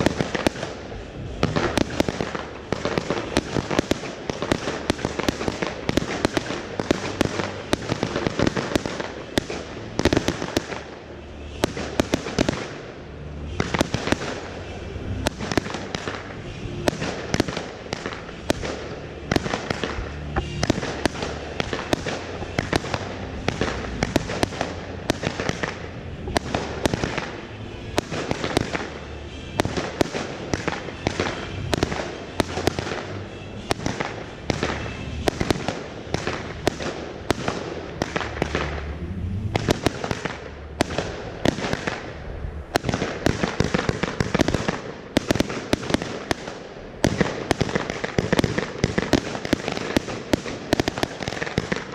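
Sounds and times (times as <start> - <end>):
fireworks bursting with sharp bangs: 0.0 - 51.9.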